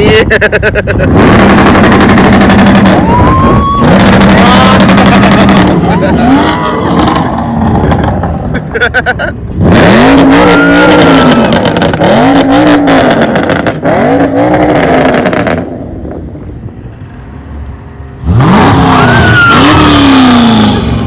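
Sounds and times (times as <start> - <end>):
car engine revving: 0.4 - 21.0.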